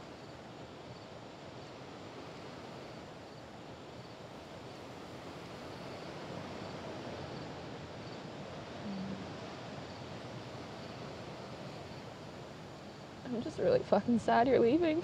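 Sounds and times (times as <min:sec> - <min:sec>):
distant surf: 0:00.0 - 0:15.0
wind: 0:00.0 - 0:15.0.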